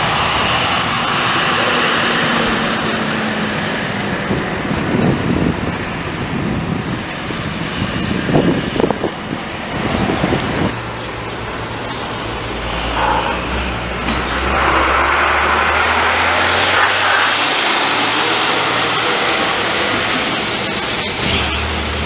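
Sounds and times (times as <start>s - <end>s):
bus diesel engine running: 0.0s - 22.0s
traffic noise: 0.0s - 22.0s.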